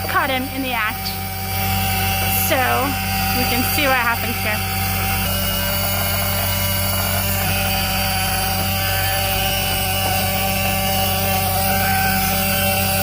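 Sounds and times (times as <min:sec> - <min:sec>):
alarm buzzer: 0:00.0 - 0:13.0.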